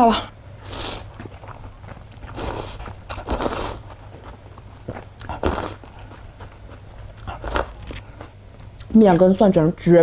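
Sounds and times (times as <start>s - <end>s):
biting and chewing food: 0.6s - 9.3s.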